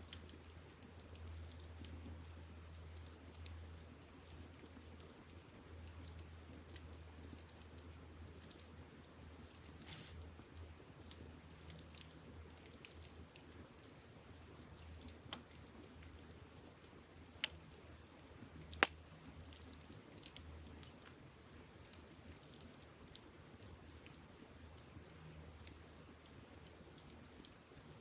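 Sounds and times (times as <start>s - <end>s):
campfire crackling and popping: 0.1s - 28.0s.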